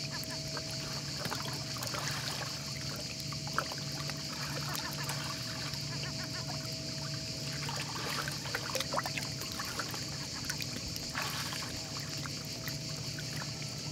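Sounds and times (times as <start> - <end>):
water lapping over pebbles: 0.0 - 13.9
dog splashing in water: 0.2 - 13.8.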